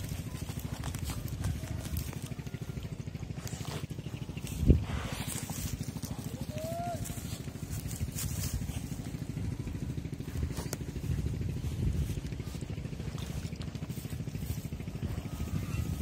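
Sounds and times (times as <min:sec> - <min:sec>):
dogs digging and snuffling: 0:00.0 - 0:16.0
small engine chugging: 0:00.0 - 0:16.0.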